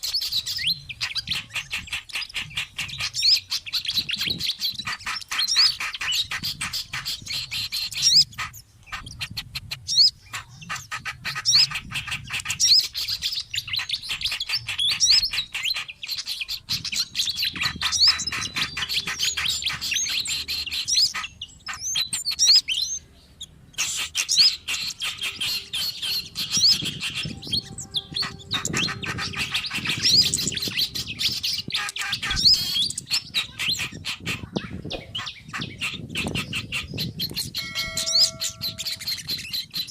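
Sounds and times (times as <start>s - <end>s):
songbirds chirping and chattering: 0.0s - 39.9s.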